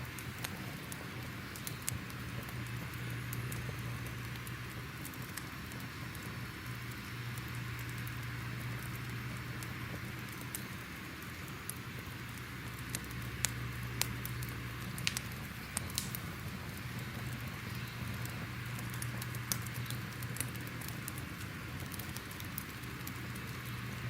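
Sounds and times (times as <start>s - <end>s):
fire popping and snapping: 0.0s - 24.0s
wood fire crackling: 0.0s - 24.0s.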